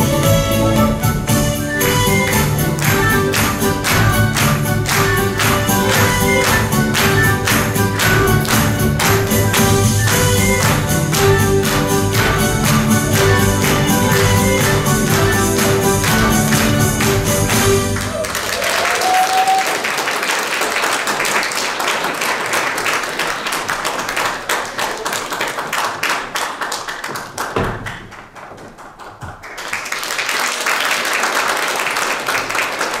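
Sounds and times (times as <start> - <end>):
audience applauding: 1.7 - 33.0.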